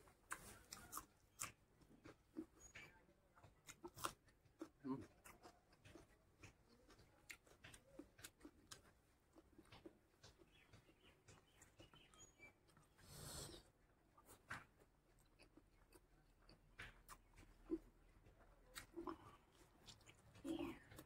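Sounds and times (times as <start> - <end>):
mouth sounds of chewing: 0.0 - 21.0.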